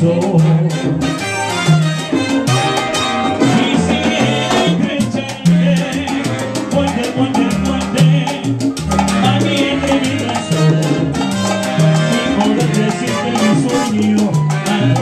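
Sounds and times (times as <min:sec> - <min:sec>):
low bass notes: 0:00.0 - 0:15.0
trumpets and trombone: 0:00.0 - 0:15.0.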